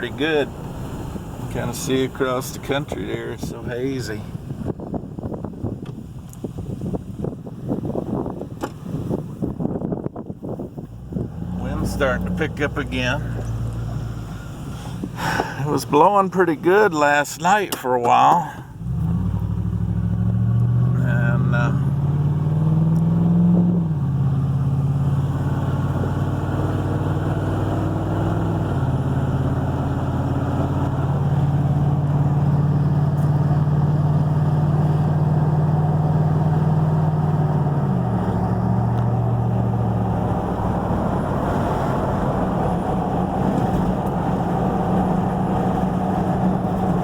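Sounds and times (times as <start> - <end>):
road noise: 0.0 - 47.0
vehicle engine hum: 0.0 - 47.0.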